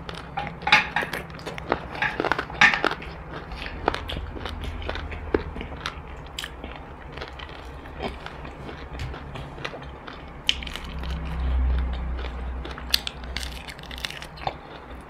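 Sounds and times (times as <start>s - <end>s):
chewing crispy fried chicken: 0.0s - 15.0s
crust crackling: 0.0s - 15.0s
low hum: 0.0s - 15.0s.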